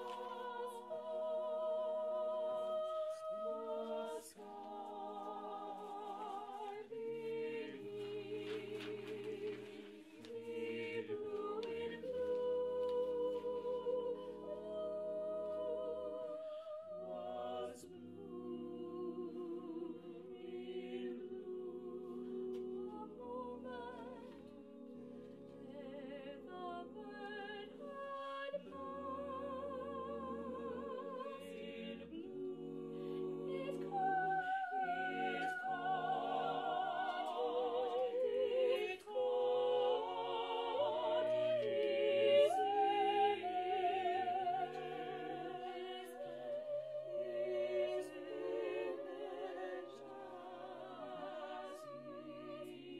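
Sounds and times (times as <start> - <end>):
mixed choir singing unaccompanied: 0.0 - 52.9.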